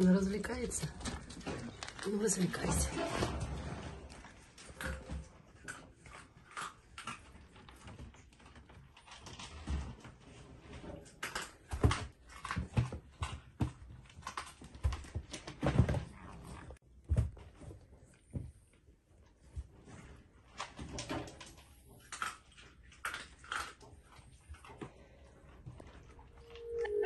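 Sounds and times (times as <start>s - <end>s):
cats tussling on floor: 3.0s - 26.7s.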